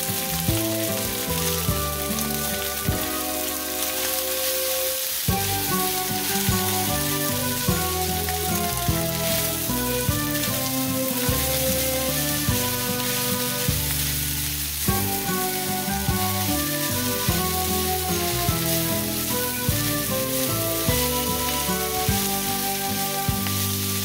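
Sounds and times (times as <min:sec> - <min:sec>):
background music: 0:00.0 - 0:24.0
fried rice sizzling in pan: 0:00.0 - 0:24.0
spatula stirring in pan: 0:00.0 - 0:24.0.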